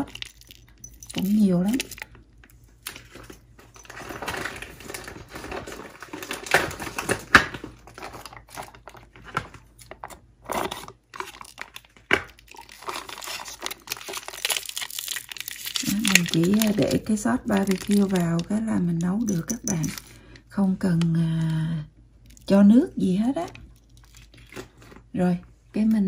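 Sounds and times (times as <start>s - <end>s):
plastic pouch crinkling: 0.0s - 20.2s, 23.8s - 25.1s.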